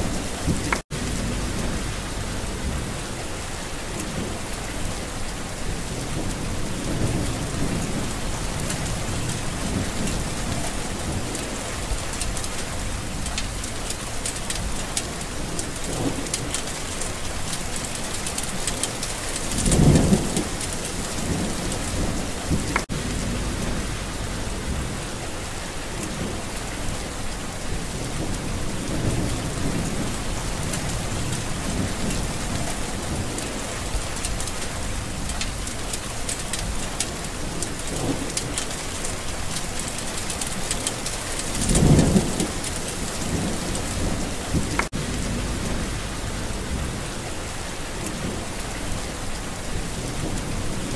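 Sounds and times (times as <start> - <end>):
rolling thunder: 0.0 - 36.0, 36.6 - 50.9
heavy rain falling: 0.0 - 50.9.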